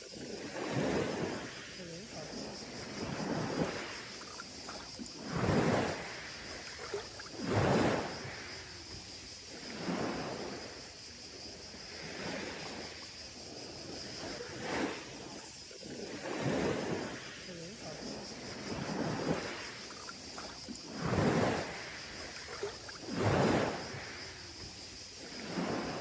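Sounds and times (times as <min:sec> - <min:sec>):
waves washing onto beach: 0:00.0 - 0:26.0.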